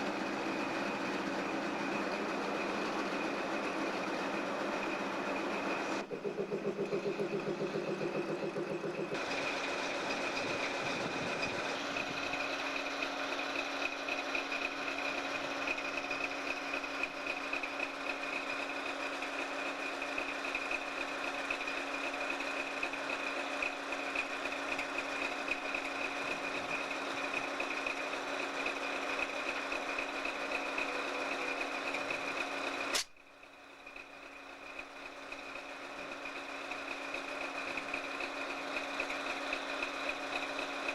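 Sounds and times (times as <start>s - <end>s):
locomotive engine humming: 0.0s - 40.9s.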